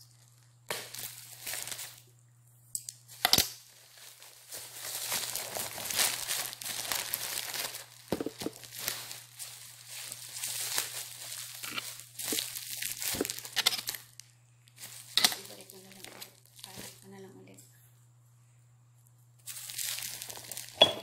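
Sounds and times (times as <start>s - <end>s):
plastic packaging being torn open: 0.2s - 2.0s, 3.1s - 17.0s, 19.5s - 20.8s.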